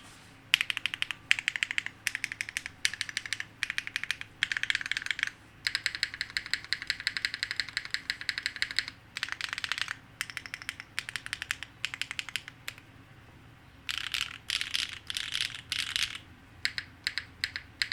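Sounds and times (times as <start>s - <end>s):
mechanical keyboard clacking: 0.5s - 12.8s, 13.9s - 17.9s.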